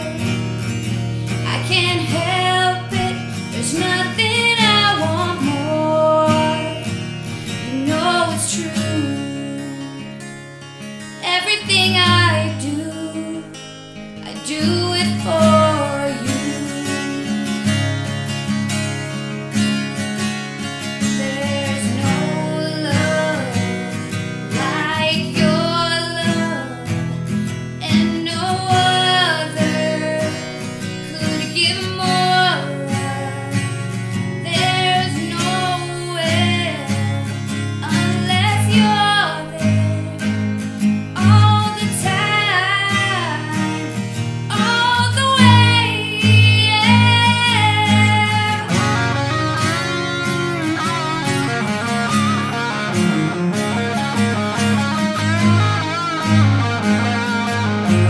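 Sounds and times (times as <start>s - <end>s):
woman singing: 0.0s - 10.4s, 11.0s - 18.2s, 21.0s - 52.6s
strummed acoustic guitar: 0.0s - 58.0s.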